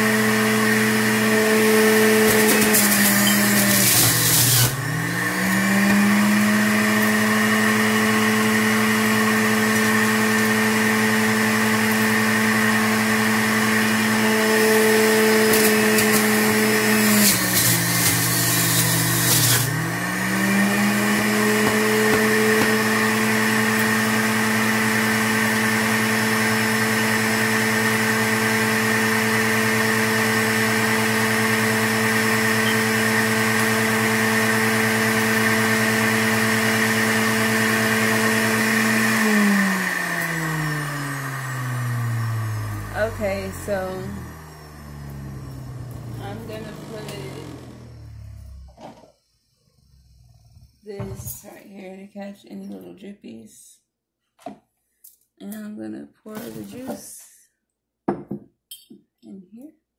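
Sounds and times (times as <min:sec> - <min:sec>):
juicer motor whining: 0:00.0 - 0:51.4.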